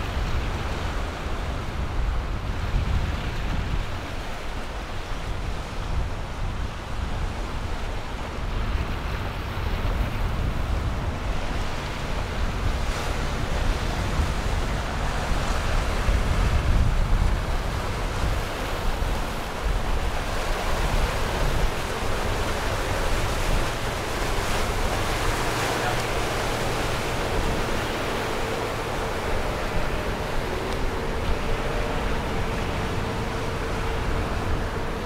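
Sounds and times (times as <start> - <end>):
ocean waves breaking: 0.0 - 35.0
wind buffeting microphone: 0.0 - 35.0.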